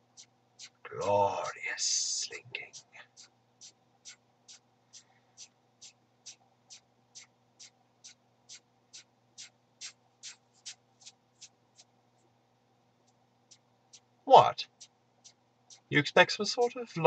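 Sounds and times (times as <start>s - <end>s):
slinky coils clicking: 0.0s - 11.9s, 13.0s - 15.9s.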